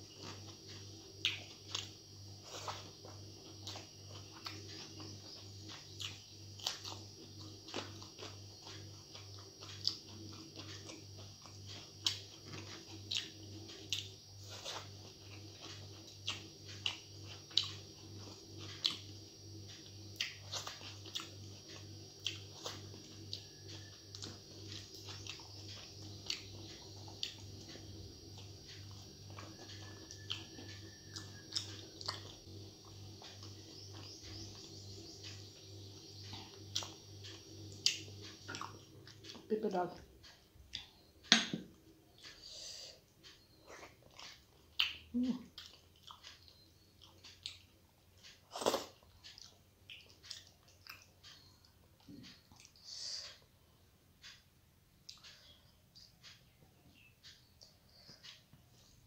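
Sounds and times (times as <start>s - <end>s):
steady low hum: 0.0s - 59.0s
chewing and lip-smacking: 0.1s - 42.5s, 43.2s - 53.4s, 55.0s - 58.9s.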